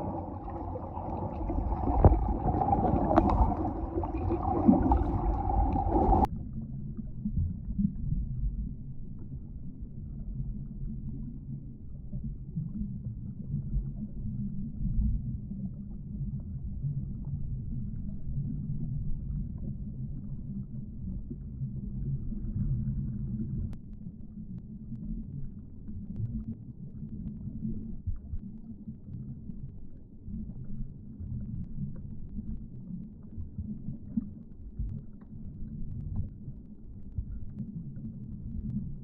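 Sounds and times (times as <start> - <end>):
muffled underwater rumble: 0.0 - 39.0.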